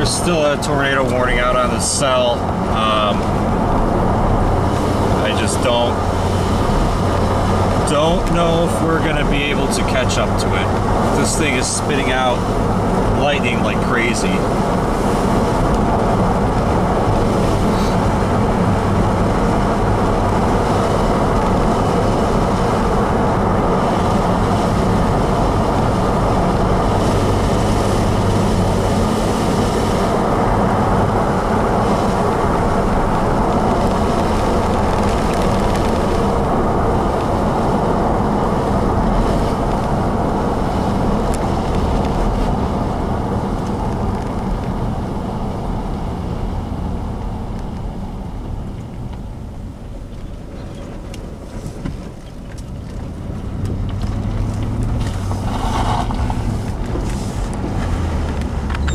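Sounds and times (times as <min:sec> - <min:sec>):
tyres rumbling on pavement: 0:00.0 - 0:58.9
vehicle road and engine noise: 0:00.0 - 0:58.9.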